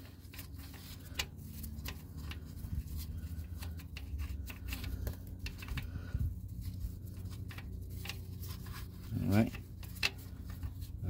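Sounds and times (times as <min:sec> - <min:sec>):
low steady rumble: 0:00.0 - 0:11.0
small clicks and rustles: 0:00.0 - 0:11.0.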